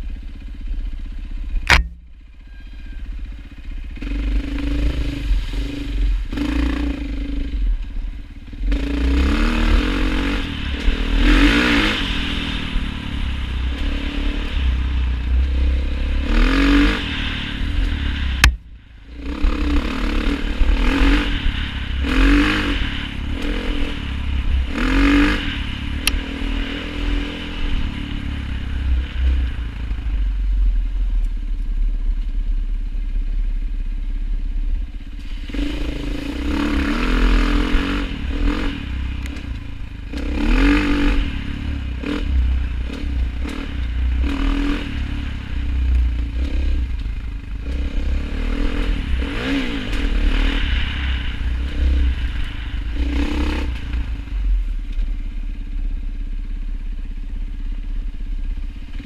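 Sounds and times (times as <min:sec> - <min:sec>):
vehicle engine revving: 0:01.4 - 0:31.6, 0:35.0 - 0:56.0.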